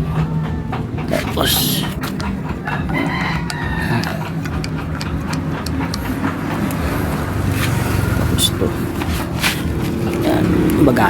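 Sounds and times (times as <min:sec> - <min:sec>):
low engine rumble: 0:00.0 - 0:11.0
rooster crowing: 0:00.0 - 0:11.0.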